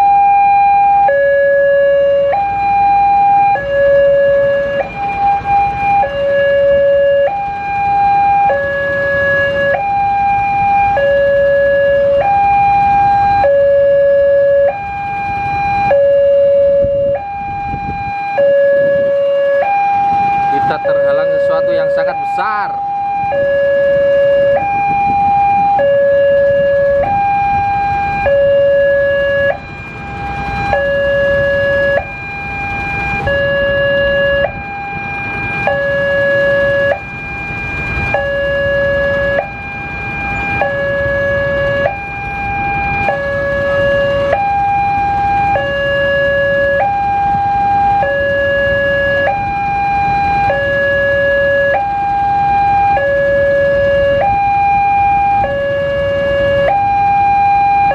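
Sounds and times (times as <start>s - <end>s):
level crossing two-tone warning: 0.0s - 57.9s.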